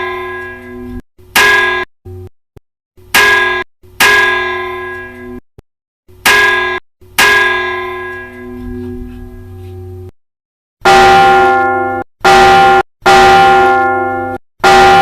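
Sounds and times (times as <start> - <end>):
church bell ringing: 0.0 - 1.9, 3.2 - 5.4, 6.3 - 10.1, 10.8 - 15.0.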